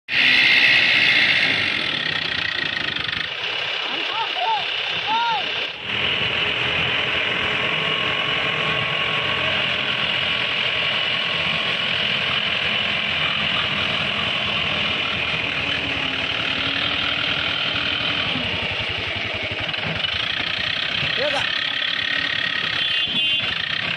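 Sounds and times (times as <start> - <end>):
tractor diesel engine running: 0.1 - 23.9.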